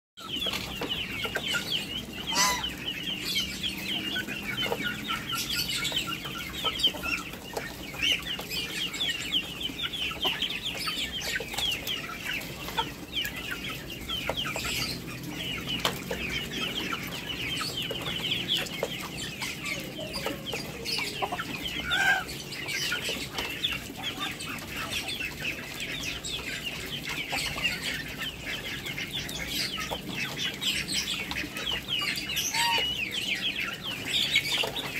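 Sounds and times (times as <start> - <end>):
birds pecking: 0.2 - 34.9
chickens clucking: 0.2 - 34.9.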